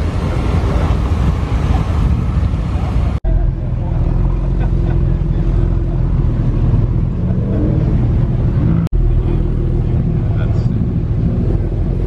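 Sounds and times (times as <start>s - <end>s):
another car engine: 0.0s - 12.0s.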